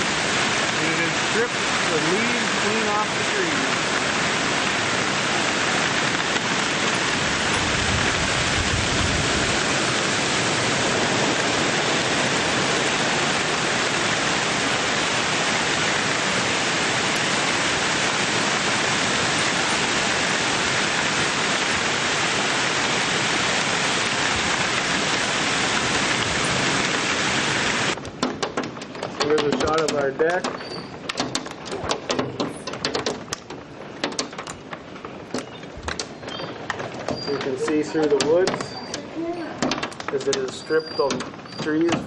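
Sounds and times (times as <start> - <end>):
hail and rain pouring: 0.0 - 42.0.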